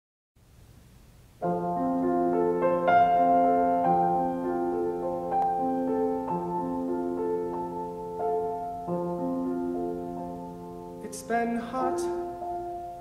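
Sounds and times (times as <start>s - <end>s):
grand piano playing chords: 1.4s - 13.0s.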